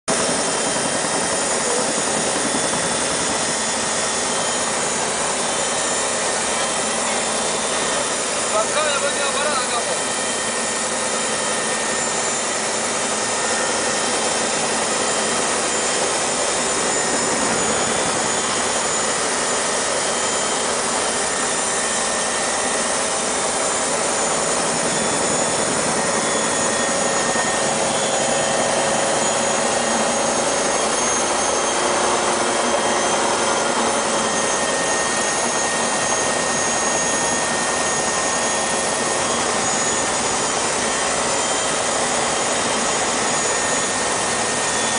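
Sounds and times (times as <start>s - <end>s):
helicopter cabin engine and rotor noise: 0.1s - 44.9s
high whines: 0.1s - 44.9s.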